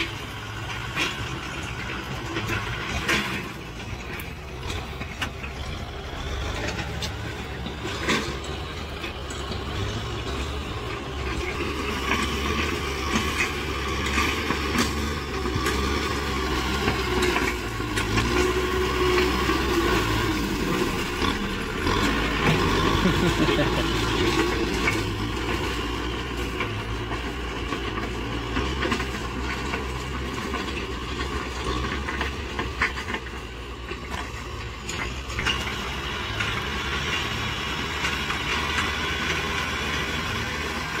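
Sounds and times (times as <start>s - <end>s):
dozer blade pushing soil: 0.0s - 41.0s
tractor diesel engine running: 0.0s - 41.0s.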